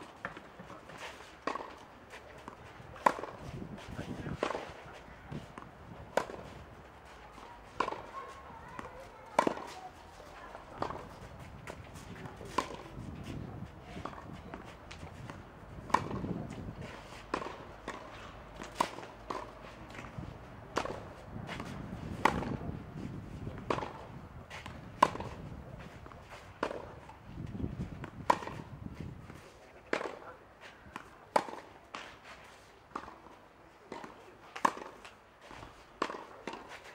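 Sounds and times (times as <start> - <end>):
footsteps on clay court: 0.0 - 36.9
tennis balls struck by rackets: 0.1 - 36.9.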